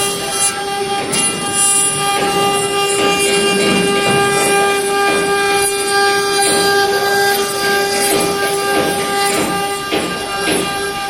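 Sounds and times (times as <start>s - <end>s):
router bit cutting wood: 0.0s - 11.0s
router spindle whine: 0.0s - 11.0s.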